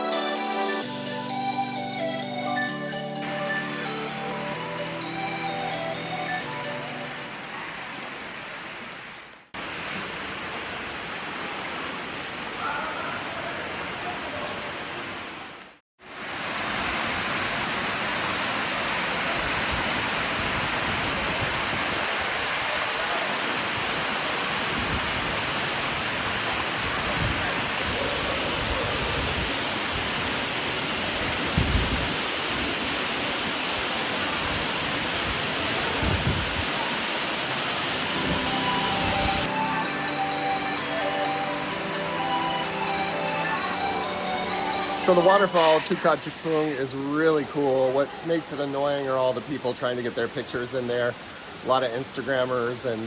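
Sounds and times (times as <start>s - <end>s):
waterfall rushing: 1.4s - 53.0s.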